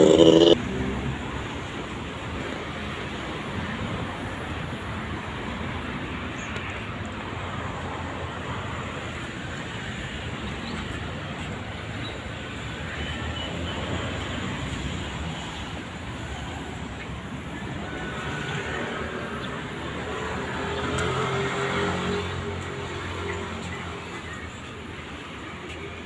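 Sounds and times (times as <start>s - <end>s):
roadside traffic hum: 0.0s - 26.0s.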